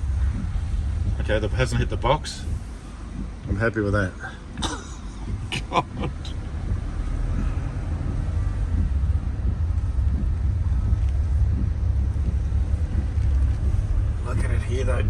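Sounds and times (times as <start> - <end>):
vehicle rumbling low: 0.0 - 15.0.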